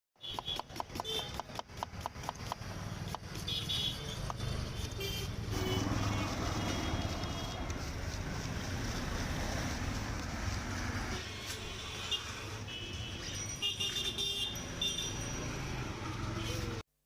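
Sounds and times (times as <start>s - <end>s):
street traffic rumble: 0.2s - 16.8s.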